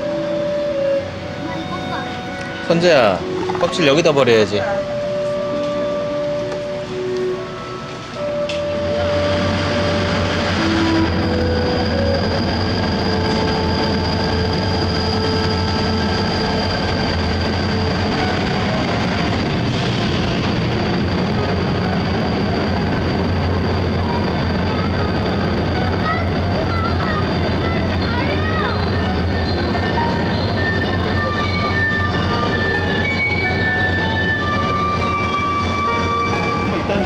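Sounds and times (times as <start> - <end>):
passenger train running: 0.0 - 37.0.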